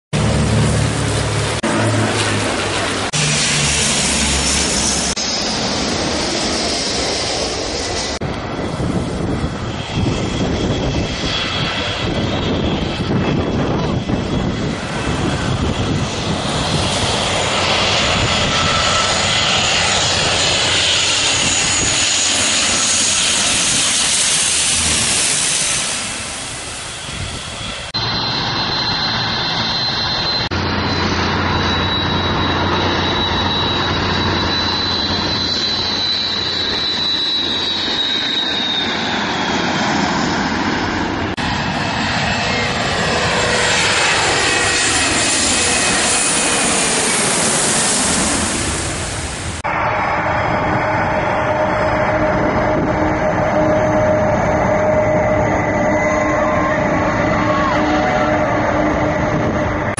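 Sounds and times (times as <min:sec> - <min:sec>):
jet engines roaring: 0:00.1 - 0:59.9.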